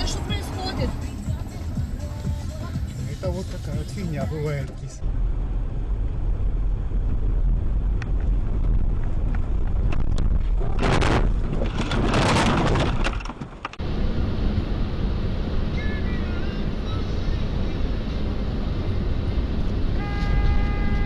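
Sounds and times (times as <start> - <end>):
road and engine rumble: 0.0 - 21.0.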